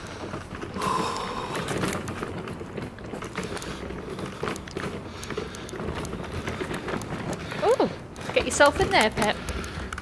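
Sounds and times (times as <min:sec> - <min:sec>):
wheelchair wheels on cobblestones: 0:00.0 - 0:10.0.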